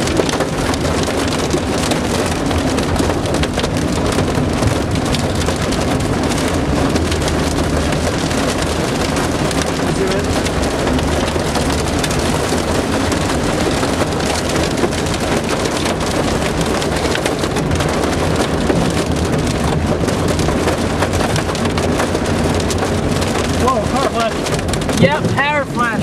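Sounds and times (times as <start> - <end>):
car road rumble: 0.0 - 26.0
heavy rain on a car: 0.0 - 26.0.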